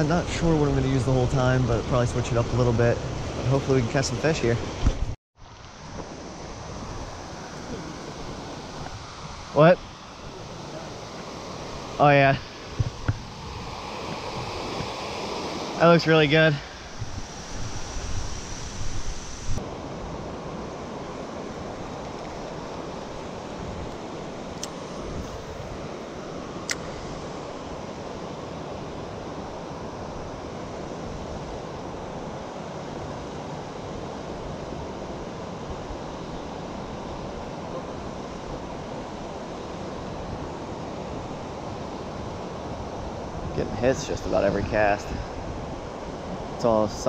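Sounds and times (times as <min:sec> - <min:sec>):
creek water flowing: 0:00.0 - 0:47.0.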